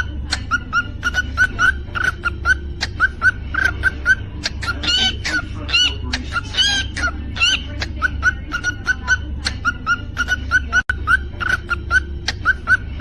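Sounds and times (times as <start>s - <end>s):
cockatiel chirping: 0.0s - 13.0s
steady low hum: 0.0s - 13.0s.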